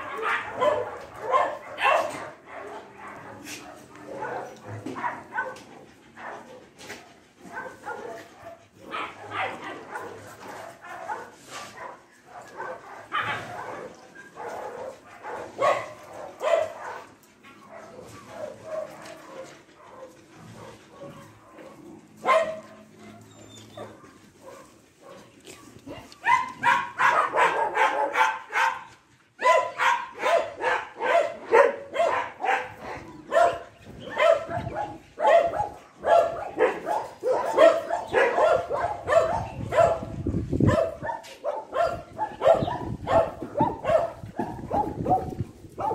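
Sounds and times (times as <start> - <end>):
dog barking and yipping: 0.0 - 45.9.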